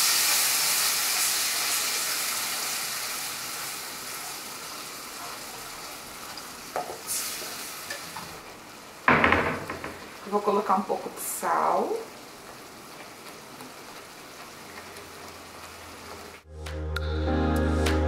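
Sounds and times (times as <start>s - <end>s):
sauce sizzling in a frying pan: 0.0s - 9.1s, 10.0s - 16.5s.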